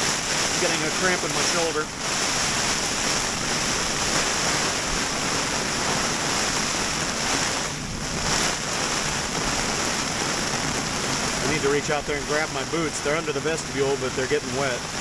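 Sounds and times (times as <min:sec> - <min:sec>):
wind and rain buffeting a tent: 0:00.0 - 0:15.0.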